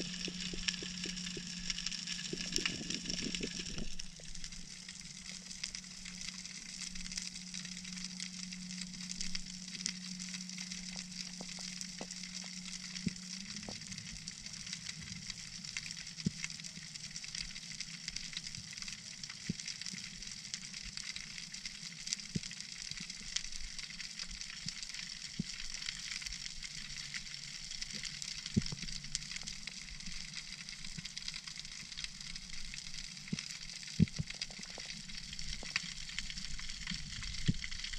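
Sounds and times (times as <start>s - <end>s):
low steady hum: 0.0s - 37.9s
snapping shrimp crackling underwater: 0.0s - 37.9s.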